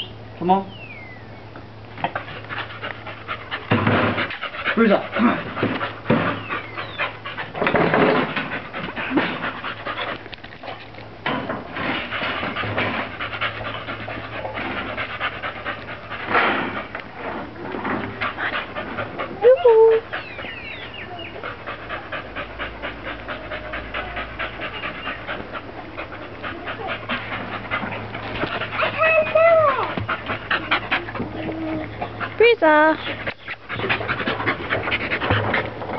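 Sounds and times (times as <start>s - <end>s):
dog panting: 2.0s - 11.0s, 11.8s - 17.3s, 18.0s - 35.9s.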